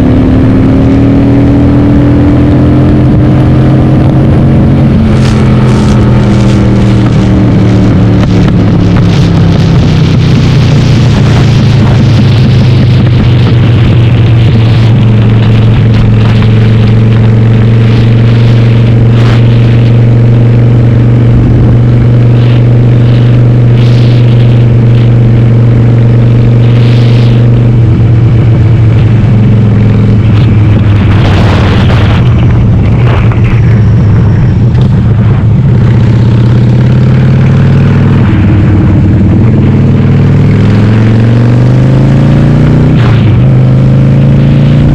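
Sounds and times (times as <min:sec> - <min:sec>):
motorcycle engine cruising: 0:00.0 - 0:44.9
wind noise: 0:00.0 - 0:44.9.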